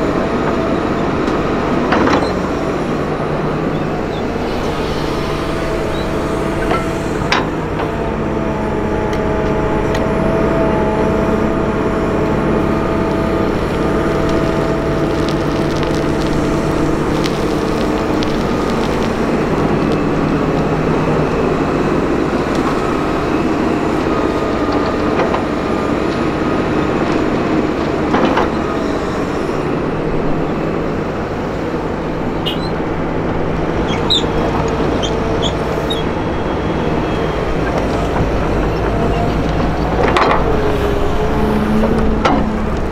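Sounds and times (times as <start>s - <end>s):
excavator diesel engine: 0.0s - 42.9s
tractor engine running: 0.0s - 42.9s.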